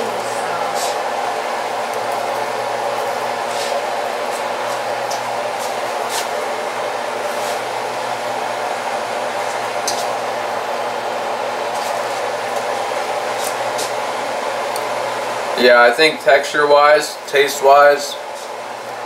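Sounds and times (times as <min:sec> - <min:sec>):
blower fan whooshing: 0:00.0 - 0:19.0.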